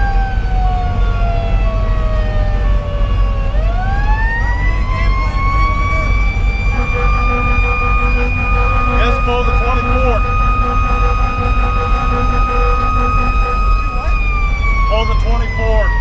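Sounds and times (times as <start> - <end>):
fire engine diesel rumble: 0.0 - 16.0
mechanical siren wailing: 0.0 - 16.0.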